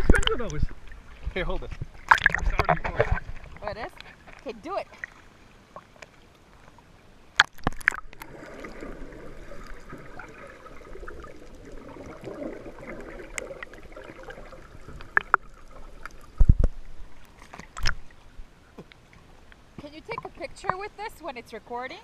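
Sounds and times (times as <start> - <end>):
water gurgling and sloshing: 0.0 - 21.8.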